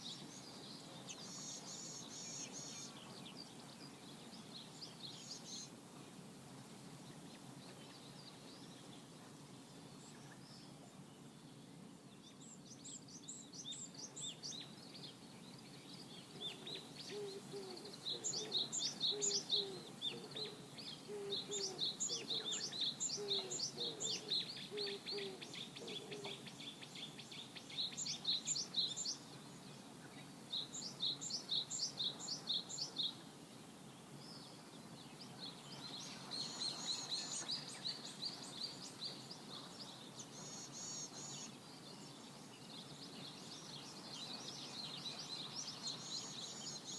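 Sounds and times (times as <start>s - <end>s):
outdoor background noise: 0.0s - 46.9s
songbird singing: 0.0s - 46.9s.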